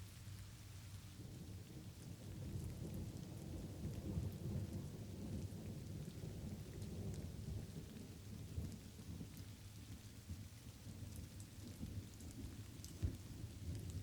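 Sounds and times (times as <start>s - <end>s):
light rain pattering: 0.0s - 14.0s.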